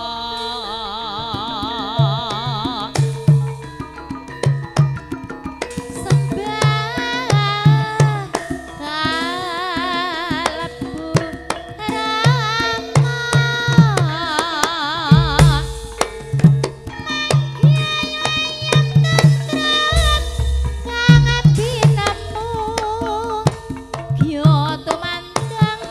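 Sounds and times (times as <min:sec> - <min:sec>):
high voice singing with vibrato: 0:00.0 - 0:03.9, 0:05.9 - 0:16.0, 0:16.9 - 0:25.9
metallophone tones: 0:00.3 - 0:25.9
hand drum beating: 0:01.2 - 0:25.9.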